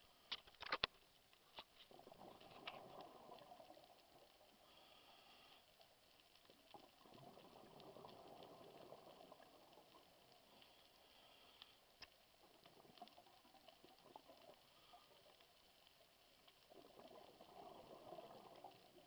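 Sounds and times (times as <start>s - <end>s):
underwater reef crackle: 0.0s - 19.0s.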